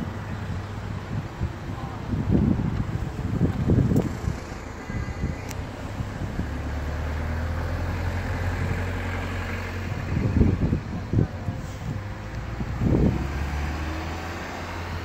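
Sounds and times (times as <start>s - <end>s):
engine humming: 0.0s - 15.0s
wind buffeting microphone: 0.0s - 15.0s.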